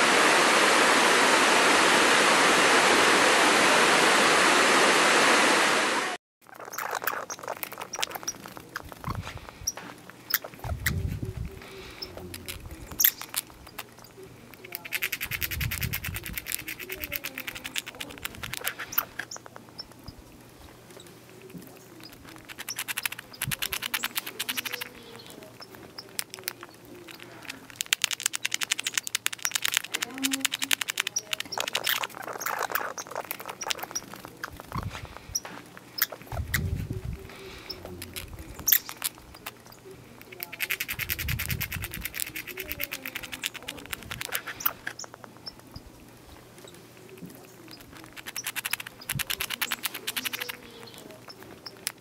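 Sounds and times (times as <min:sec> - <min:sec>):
squirrels gnawing seeds: 0:06.4 - 0:52.0.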